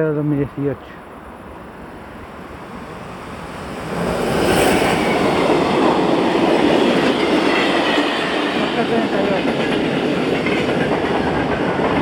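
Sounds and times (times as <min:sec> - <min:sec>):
freight train on rails: 0:00.0 - 0:12.0.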